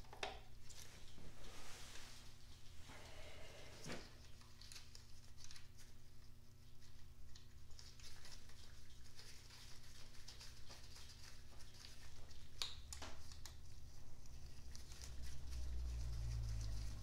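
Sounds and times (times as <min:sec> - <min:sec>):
steady low hum: 0:00.4 - 0:17.0.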